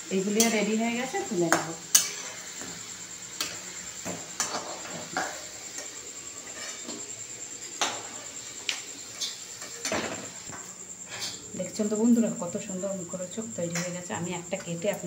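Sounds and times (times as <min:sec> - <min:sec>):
frying sizzle: 0:00.0 - 0:15.0.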